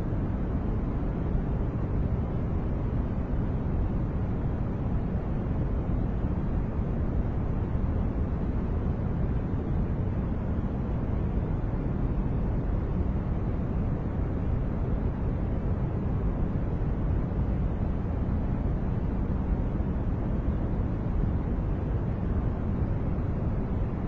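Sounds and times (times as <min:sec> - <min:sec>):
deep white noise: 0:00.0 - 0:24.0.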